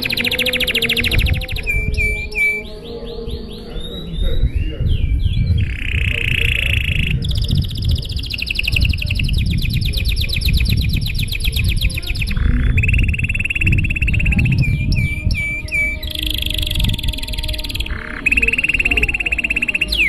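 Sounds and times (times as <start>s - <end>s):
canary singing: 0.0s - 20.0s
low rumble: 0.0s - 20.0s.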